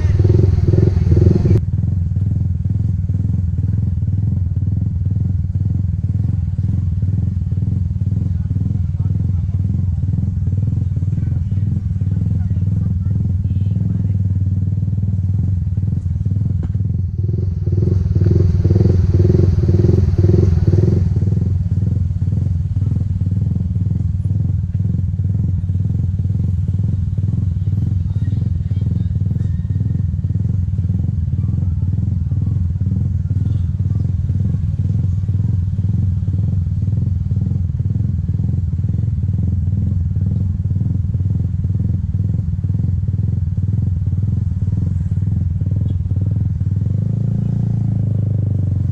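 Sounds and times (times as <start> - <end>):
pulsing engine passing: 0.0 - 40.1
motorcycle engine running: 0.0 - 48.9
road noise: 0.0 - 48.9.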